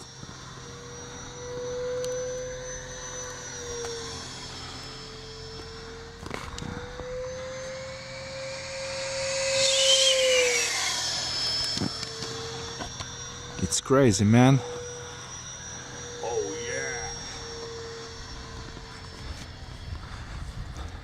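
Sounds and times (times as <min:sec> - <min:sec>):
model jet fan whine passing: 0:00.0 - 0:21.0.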